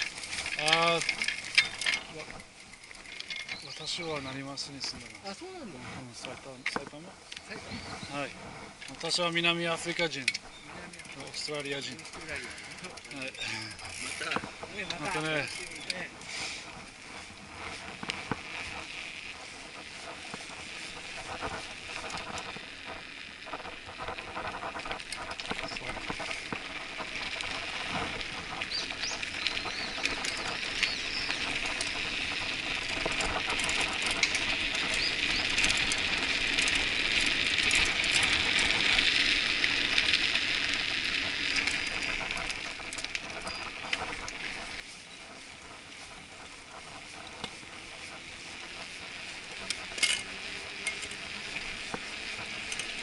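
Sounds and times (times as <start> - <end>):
bike rattles and clicks: 0.0 - 53.0
bike tyres hissing on pavement: 0.0 - 53.0.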